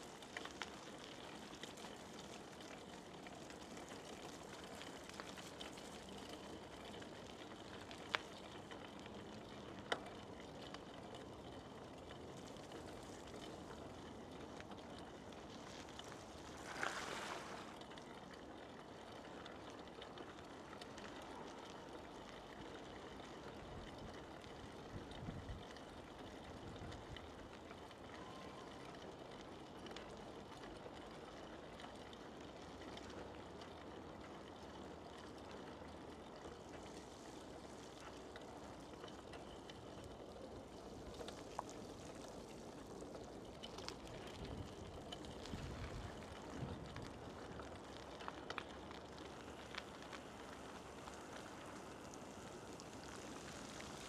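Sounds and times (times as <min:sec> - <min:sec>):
bicycle rolling on asphalt: 0:00.0 - 0:54.0
faint outdoor background noise: 0:00.0 - 0:54.0.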